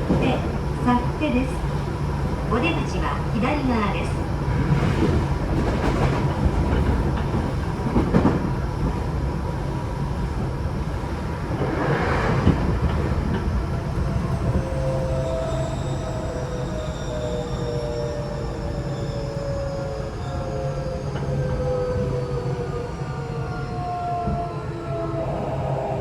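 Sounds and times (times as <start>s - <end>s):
rail joint clickety-clack: 0.0s - 26.0s
train wheels rumbling on rails: 0.0s - 26.0s.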